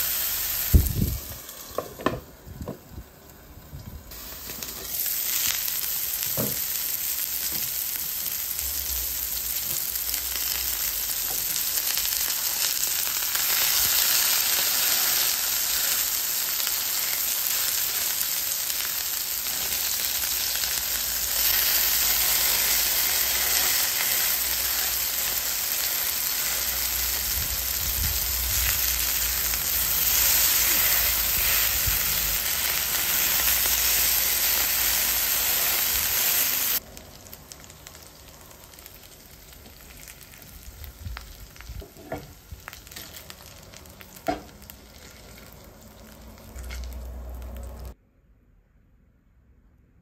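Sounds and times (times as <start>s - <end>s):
patties sizzling in oil: 0.0s - 48.0s.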